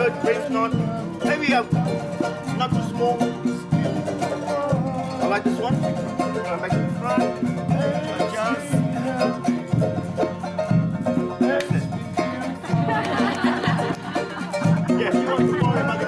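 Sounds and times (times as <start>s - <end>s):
drum beat: 0.0s - 16.0s
ukulele strummed: 0.0s - 16.0s.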